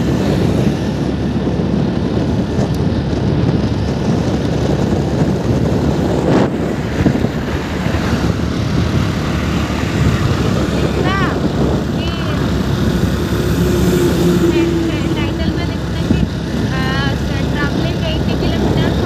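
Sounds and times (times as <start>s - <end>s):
scooter engine and road rumble: 0.0s - 19.0s
wind rushing over microphone: 0.0s - 19.0s.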